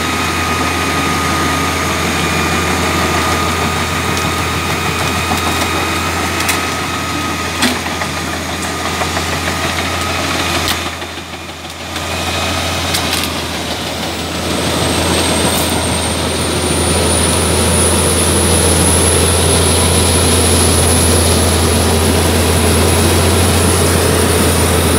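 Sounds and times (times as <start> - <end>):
high machine whine: 0.0 - 24.9
wood chipper engine drone: 0.0 - 24.9.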